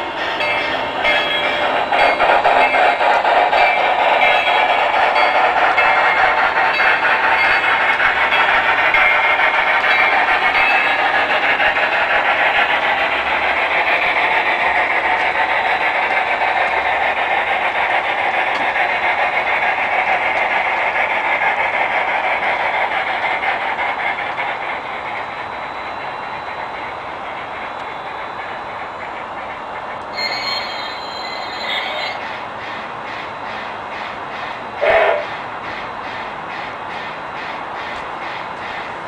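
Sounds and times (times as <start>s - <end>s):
model train wheels rolling on rails: 0.0s - 39.0s.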